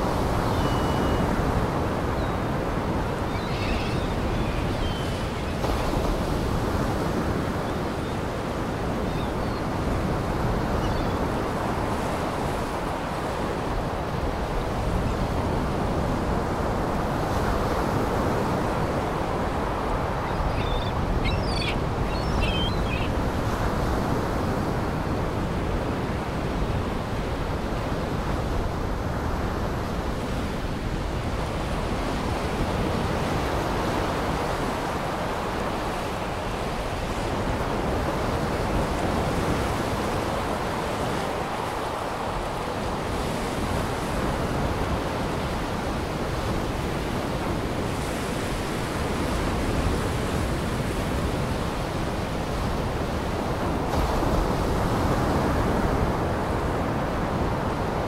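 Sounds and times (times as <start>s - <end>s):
waves washing against a shore: 0.0s - 58.0s.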